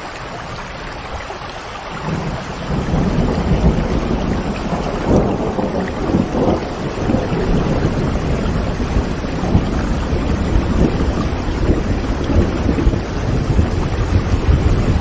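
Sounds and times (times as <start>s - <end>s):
heavy rain: 0.0s - 15.0s
low thunder rumble: 2.0s - 15.0s.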